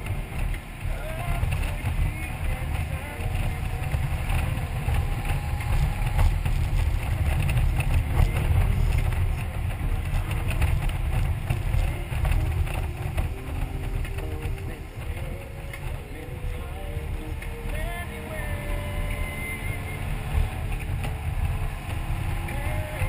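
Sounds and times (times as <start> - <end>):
motorcycle engine: 0.0 - 23.0
road noise: 0.0 - 23.0
wind buffeting microphone: 0.0 - 23.0.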